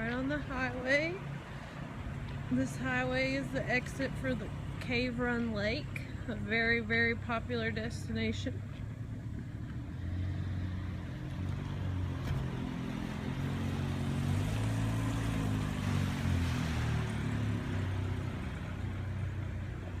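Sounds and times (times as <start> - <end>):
traffic noise: 0.0 - 20.0
vehicle engine humming: 0.0 - 20.0.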